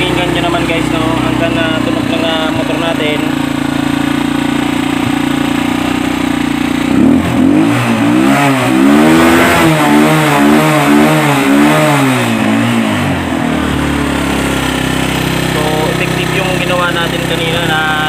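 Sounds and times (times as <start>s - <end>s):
small motorcycle engine revving: 0.0s - 18.0s.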